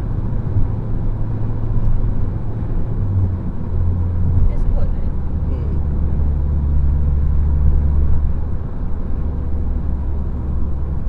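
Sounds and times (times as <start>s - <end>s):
deep car exhaust rumble: 0.0s - 11.0s.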